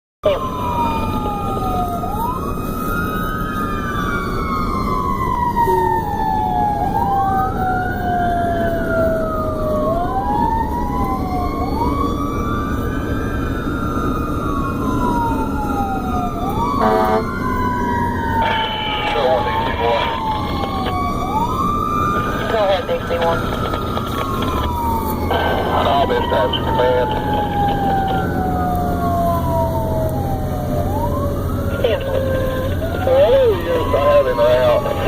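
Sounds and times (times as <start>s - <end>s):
fire engine siren wailing: 0.2s - 35.0s
road noise: 0.2s - 35.0s
truck engine rumble: 0.2s - 35.0s.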